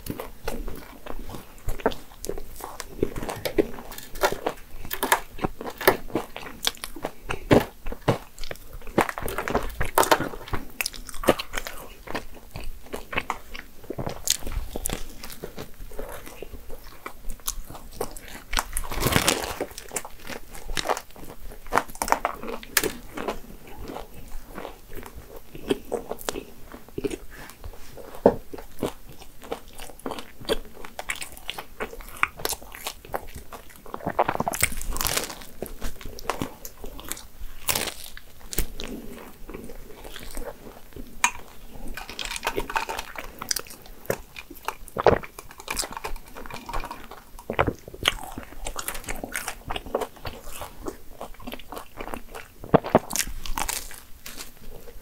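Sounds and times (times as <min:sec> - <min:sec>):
crisp crust crackles: 0:00.0 - 0:55.0
pastry biting and chewing: 0:00.0 - 0:55.0.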